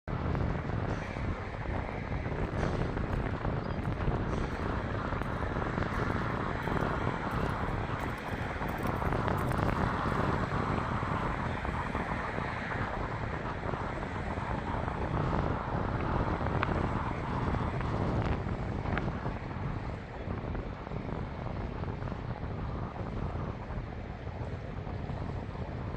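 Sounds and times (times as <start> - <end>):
train crossing a bridge: 0.0 - 25.9
wind noise: 0.0 - 25.9.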